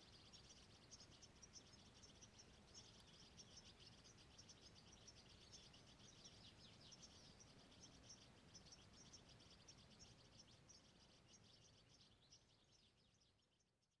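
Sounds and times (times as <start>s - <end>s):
low outdoor background noise: 0.0s - 14.0s
small birds chirping: 0.0s - 14.0s.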